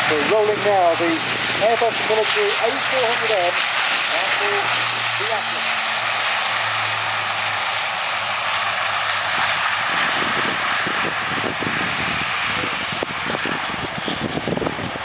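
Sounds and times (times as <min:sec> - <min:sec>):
turboprop engines at take-off power: 0:00.0 - 0:15.0.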